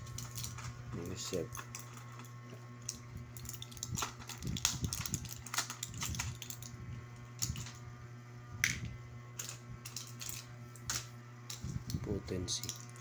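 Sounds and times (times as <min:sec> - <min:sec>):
small objects clicking and tapping: 0:00.0 - 0:06.7, 0:07.4 - 0:07.8, 0:08.6 - 0:13.0
steady low hum: 0:00.0 - 0:13.0.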